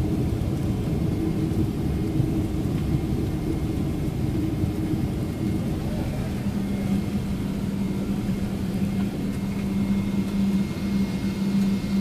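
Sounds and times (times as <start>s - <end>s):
low rumble of jet rolling: 0.0s - 12.0s
steady low hum: 0.0s - 12.0s.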